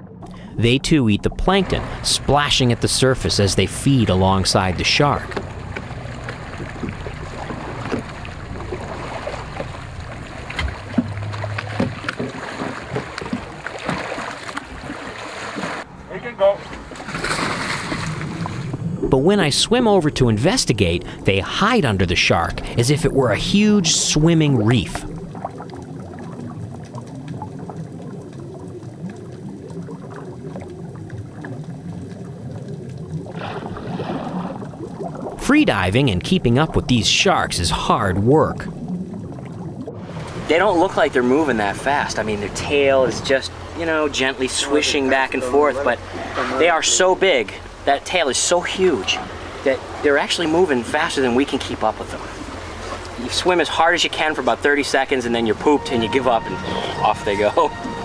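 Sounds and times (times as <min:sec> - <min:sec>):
boat engine hum: 0:00.0 - 0:58.0
water splashing and lapping: 0:01.2 - 0:58.0.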